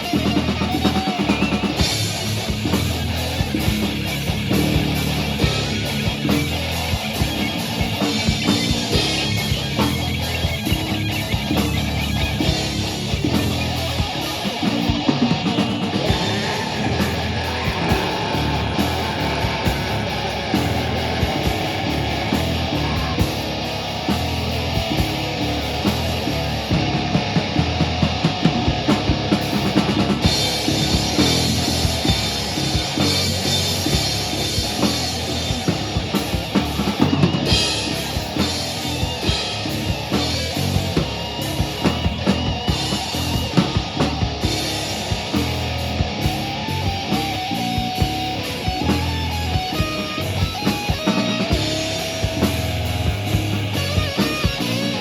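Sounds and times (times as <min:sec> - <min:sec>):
drum kit pounding: 0:00.0 - 0:55.0
live rock band playing: 0:00.0 - 0:55.0.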